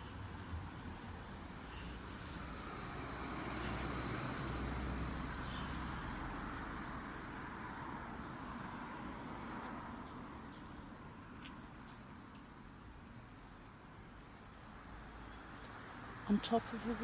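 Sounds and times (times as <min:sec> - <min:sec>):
road traffic rumble: 0:00.0 - 0:17.0
vehicle passing: 0:00.0 - 0:17.0.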